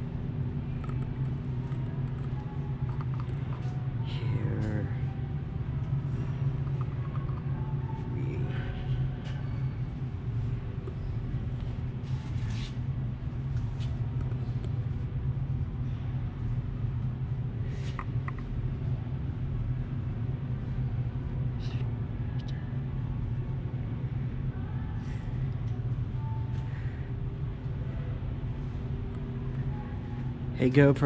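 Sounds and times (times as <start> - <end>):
low indoor hum: 0.0 - 31.0.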